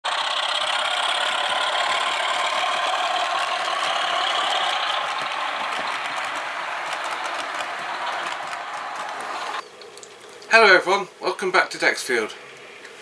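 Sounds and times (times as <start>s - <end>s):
model train whirring and rattling: 0.1s - 10.6s.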